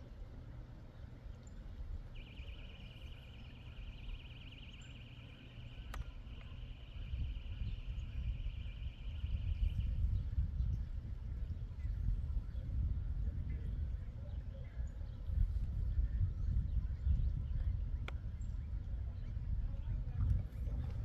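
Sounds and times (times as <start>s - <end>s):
wind buffeting microphone: 1.4s - 21.0s.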